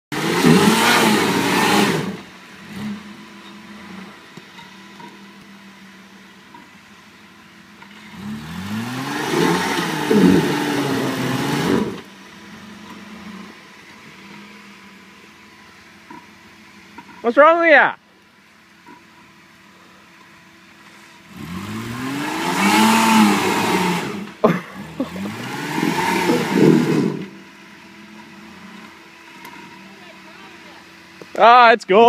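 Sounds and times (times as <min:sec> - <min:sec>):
car engine revving: 0:00.0 - 0:31.7.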